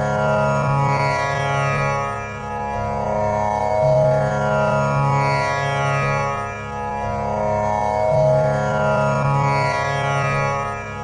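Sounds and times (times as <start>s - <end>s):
tanpura drone: 0.0s - 11.0s.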